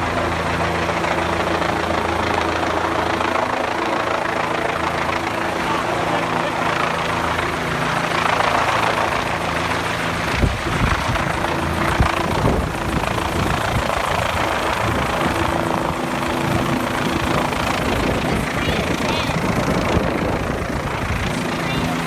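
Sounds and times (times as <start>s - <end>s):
helicopter rotors and engine: 0.0s - 22.0s.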